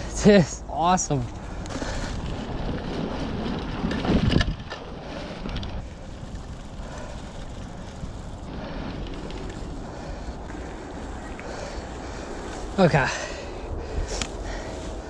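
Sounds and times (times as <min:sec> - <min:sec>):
bike tyres rolling on dirt: 0:00.0 - 0:15.0
bike knocking and rattling: 0:00.8 - 0:13.2.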